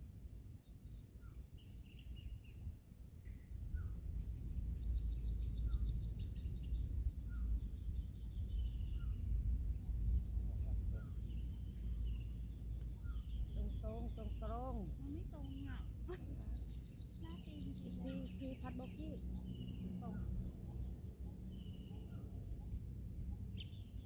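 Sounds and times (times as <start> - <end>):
wind rumbling on microphone: 0.0 - 24.0
birds calling: 3.7 - 24.0.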